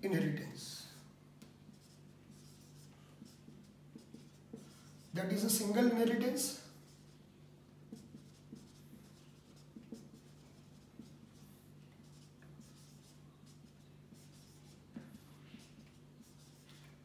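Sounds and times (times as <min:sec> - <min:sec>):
low steady hum: 0:00.0 - 0:17.0
marker scratching on whiteboard: 0:01.6 - 0:06.2, 0:06.8 - 0:17.0.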